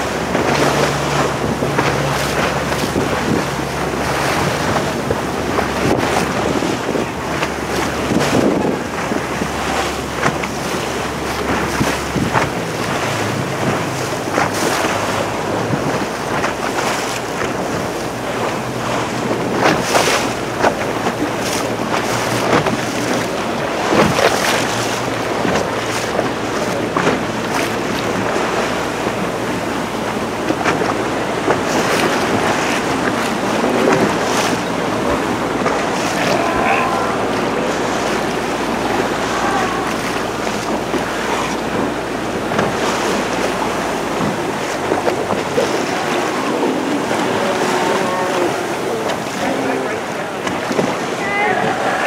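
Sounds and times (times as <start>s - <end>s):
boat motor humming: 0.0s - 52.0s
choppy waves: 0.0s - 52.0s
wind buffeting microphone: 0.0s - 52.0s.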